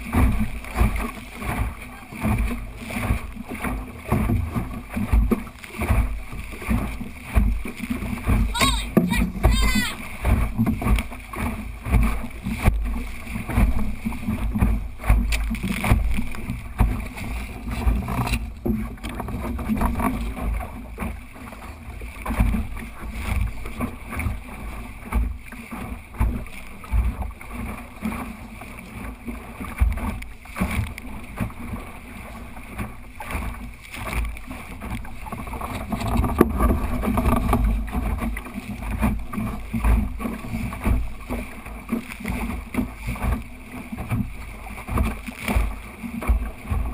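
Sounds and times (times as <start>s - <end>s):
water slapping against hull: 0.0s - 46.9s.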